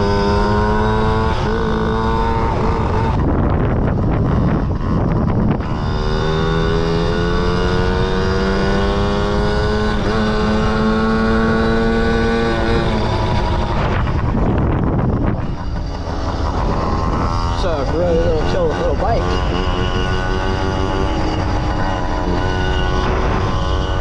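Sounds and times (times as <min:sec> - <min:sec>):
small two-stroke engine revving: 0:00.0 - 0:24.0
wind rumble on microphone: 0:00.0 - 0:24.0.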